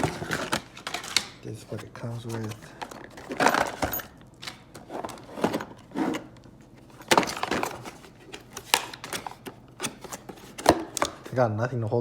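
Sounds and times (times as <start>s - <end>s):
parts and packaging knocking: 0.0s - 1.4s, 2.2s - 6.3s, 7.0s - 11.3s.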